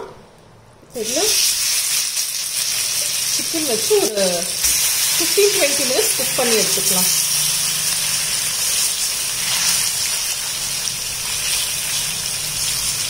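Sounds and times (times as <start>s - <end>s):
chicken sizzling in hot oil: 1.0s - 13.0s.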